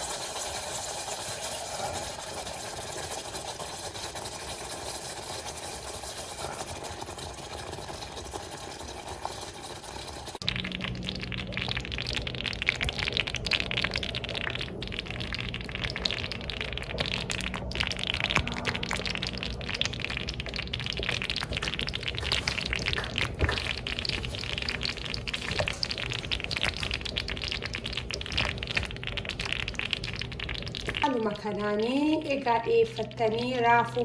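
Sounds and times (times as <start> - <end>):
stew bubbling and spitting: 0.0 - 31.1.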